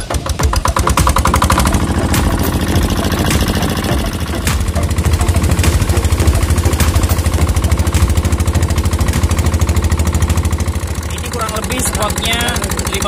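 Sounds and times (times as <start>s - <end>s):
boat engine chugging: 0.0s - 13.0s.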